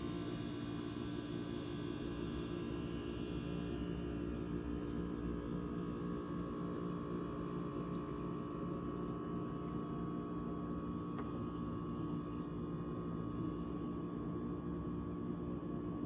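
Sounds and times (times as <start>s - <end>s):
refrigerator hum: 0.0s - 16.0s.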